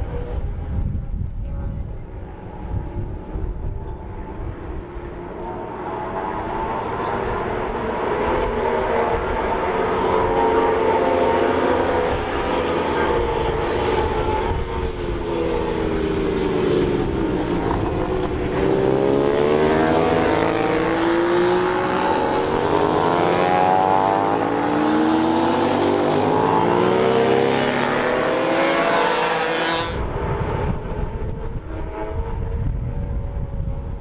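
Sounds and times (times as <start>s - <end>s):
racing motorcycles accelerating: 1.8s - 34.0s.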